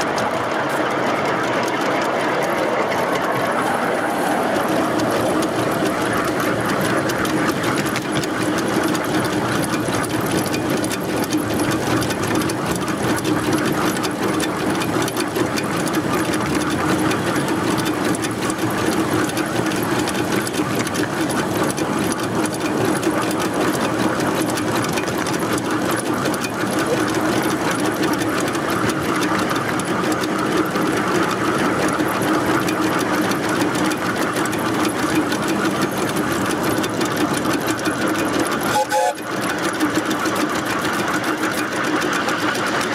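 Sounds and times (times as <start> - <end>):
running gear clattering on rails: 0.0 - 42.9
steam locomotive exhaust beats: 0.0 - 42.9.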